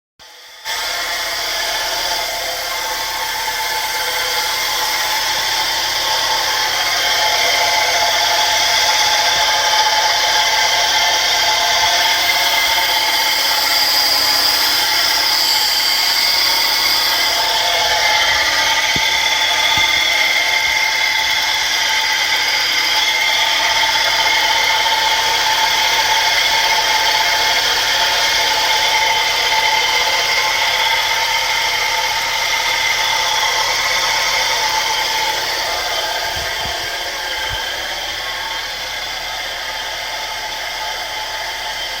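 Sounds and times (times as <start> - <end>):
high-pitched car whine: 0.2 - 42.0.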